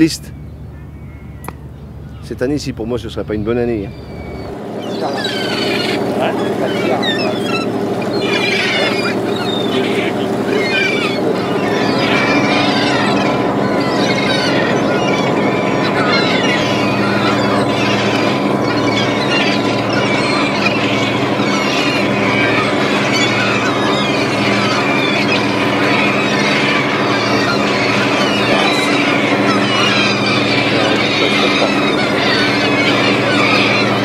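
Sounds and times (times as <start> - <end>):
boat engine humming: 0.0 - 34.0
high squeaking and squealing: 3.8 - 34.0.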